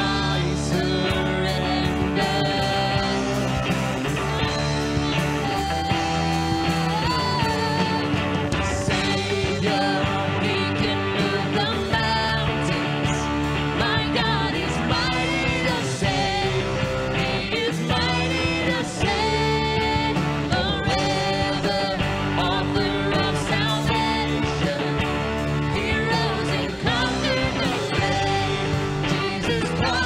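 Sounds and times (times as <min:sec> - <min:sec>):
guitar: 0:00.0 - 0:30.0
worship band playing: 0:00.0 - 0:30.0.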